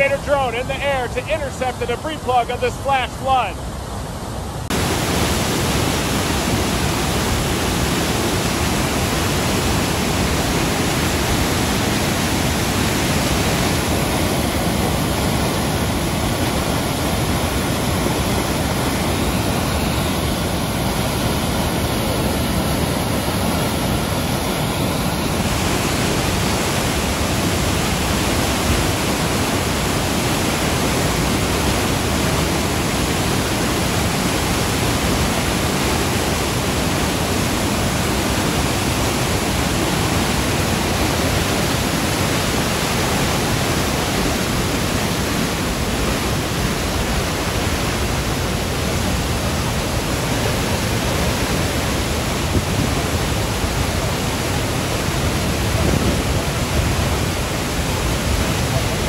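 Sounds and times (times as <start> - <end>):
floodwater rushing through rocky channel: 0.0 - 59.0.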